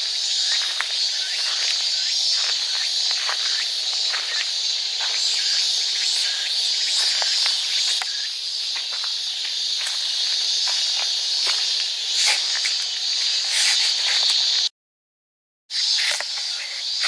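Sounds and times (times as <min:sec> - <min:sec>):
insects chirring: 0:00.0 - 0:14.7, 0:15.7 - 0:17.0.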